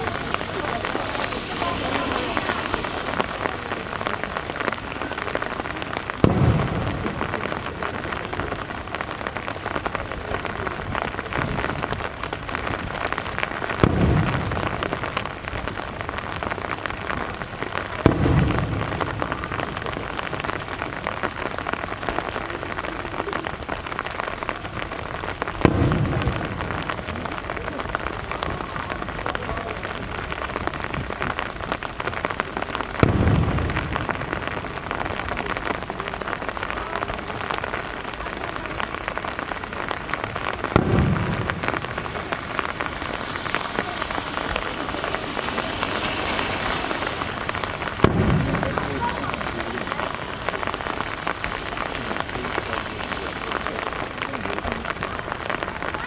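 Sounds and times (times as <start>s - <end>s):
firework shells booming: 0.0s - 16.4s, 17.8s - 21.1s, 25.5s - 29.2s, 32.8s - 36.4s, 37.4s - 55.6s
steady rain falling: 0.0s - 56.0s.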